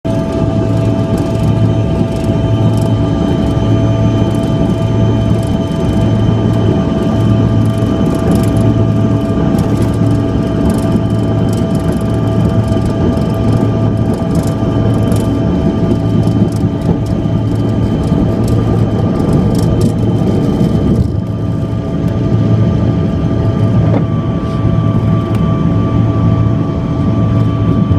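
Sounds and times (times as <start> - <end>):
jet engines rumbling in cabin: 0.0 - 27.9
low pulsing hum: 0.0 - 27.9.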